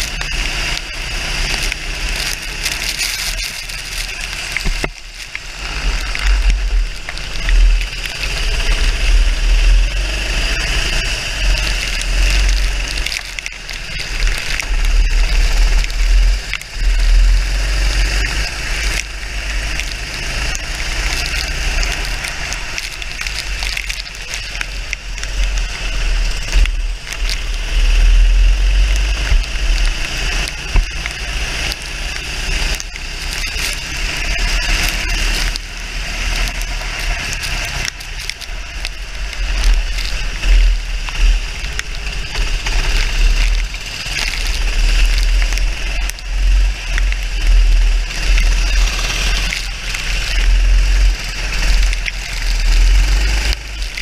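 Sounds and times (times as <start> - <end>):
kart engine running hard: 0.0 - 54.0
water spray crackling: 0.0 - 54.0.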